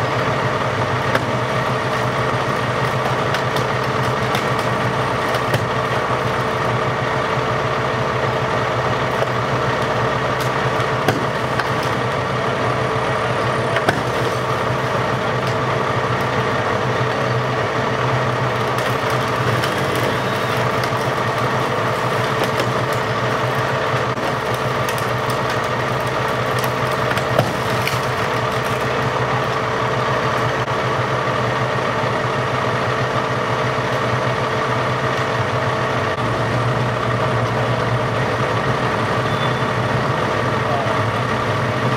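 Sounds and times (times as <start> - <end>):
large engine idling: 0.0 - 41.9.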